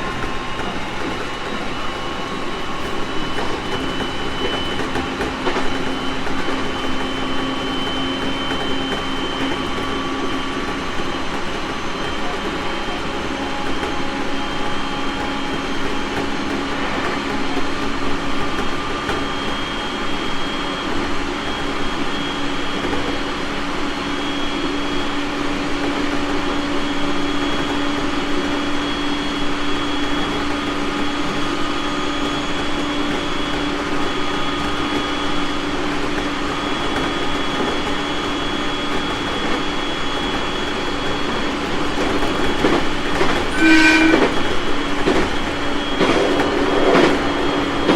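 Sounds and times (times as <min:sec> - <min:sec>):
electric train running rumble: 0:00.0 - 0:47.9.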